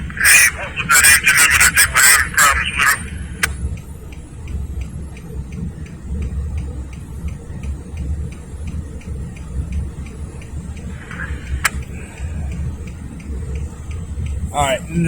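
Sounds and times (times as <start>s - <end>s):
diesel locomotives idling: 0.0s - 15.0s
faint even ticking: 2.6s - 15.0s.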